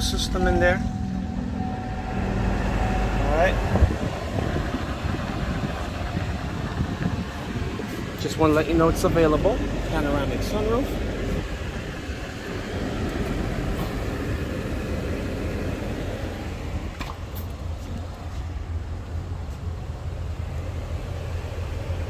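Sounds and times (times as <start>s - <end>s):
car cabin rumble: 0.0s - 22.0s.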